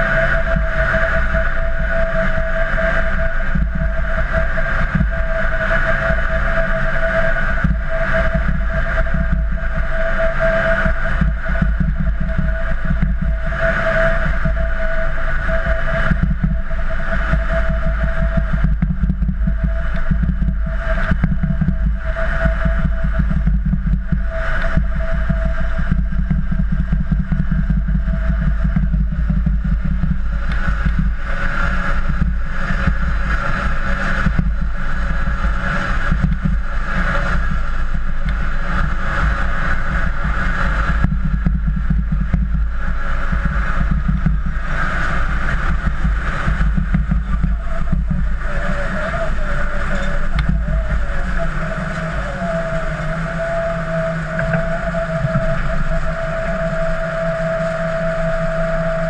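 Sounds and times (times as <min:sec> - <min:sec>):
diesel engine rumble: 0:00.0 - 0:59.0
threshing machinery hum: 0:00.0 - 0:59.0.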